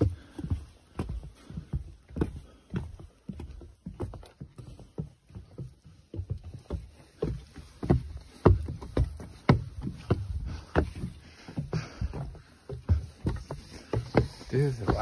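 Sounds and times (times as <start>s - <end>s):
footsteps climbing stairs: 0.0s - 15.0s.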